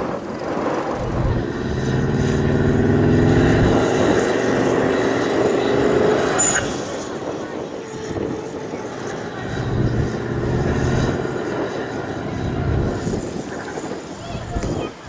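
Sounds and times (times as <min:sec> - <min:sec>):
vehicle engine revving: 0:00.0 - 0:13.8.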